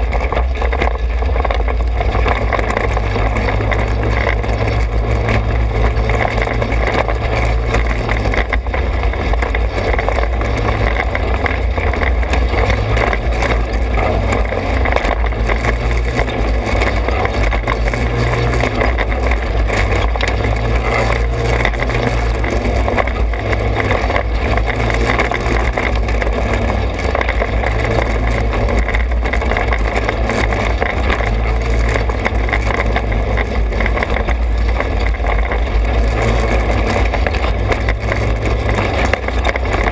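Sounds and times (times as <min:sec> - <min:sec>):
rattling over rough ground: 0:00.0 - 0:39.9
small engine running: 0:00.0 - 0:39.9.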